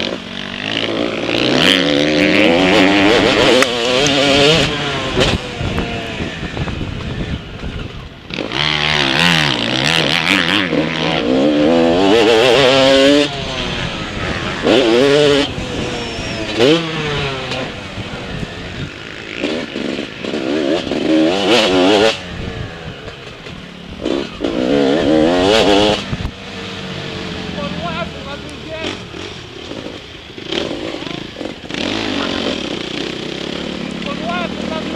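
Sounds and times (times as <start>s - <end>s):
motorbike engine revving: 0.0s - 34.9s.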